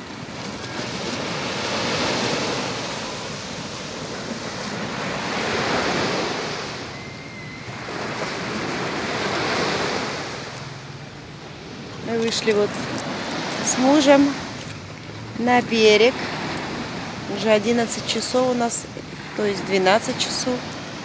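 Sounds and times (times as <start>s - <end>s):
sea surf washing ashore: 0.0s - 21.0s.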